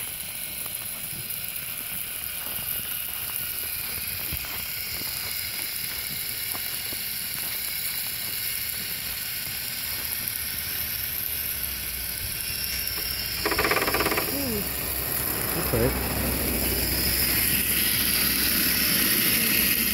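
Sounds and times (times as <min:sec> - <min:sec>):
toy truck drivetrain whirring: 0:00.0 - 0:19.9.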